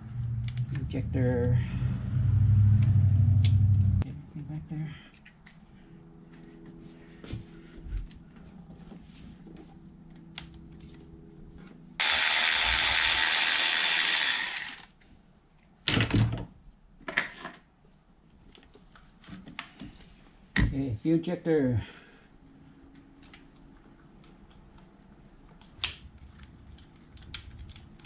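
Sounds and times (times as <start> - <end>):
faint background hum: 0.0 - 12.0, 13.8 - 28.0.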